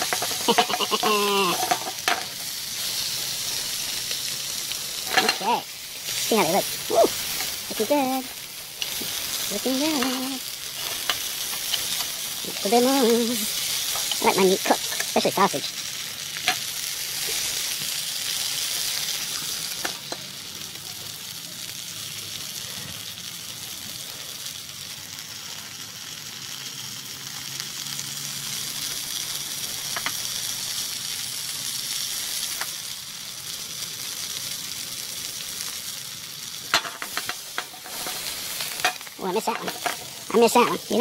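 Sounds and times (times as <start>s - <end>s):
sausages sizzling in oil: 0.0s - 41.0s.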